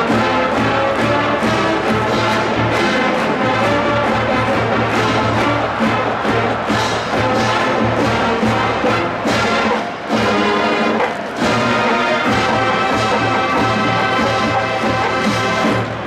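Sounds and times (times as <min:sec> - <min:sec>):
marching band brass and drums: 0:00.0 - 0:16.0.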